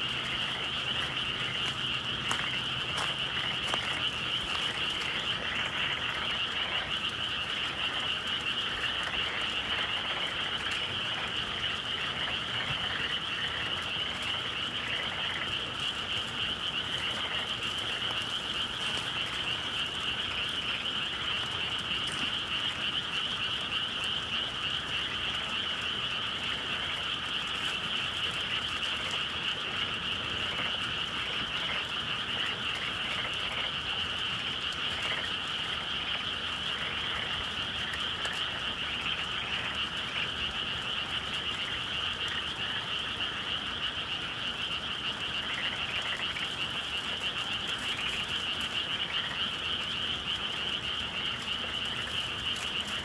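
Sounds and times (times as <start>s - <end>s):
frogs calling: 0.0s - 53.0s.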